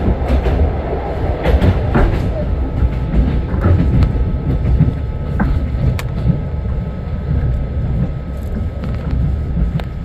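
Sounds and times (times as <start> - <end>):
train carriage rumbling: 0.0 - 10.0.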